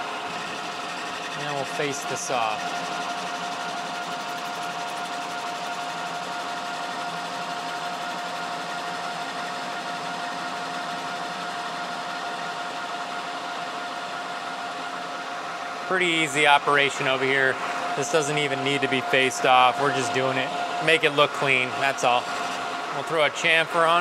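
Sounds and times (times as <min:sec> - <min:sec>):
lathe machining hum: 0:00.0 - 0:24.0
machining whine: 0:00.0 - 0:24.0.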